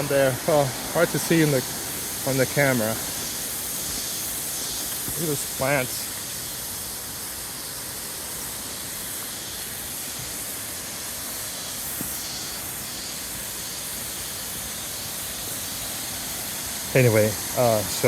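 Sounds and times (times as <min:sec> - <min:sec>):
insect drone: 0:00.0 - 0:18.0
river and waterfalls rushing: 0:00.0 - 0:18.0.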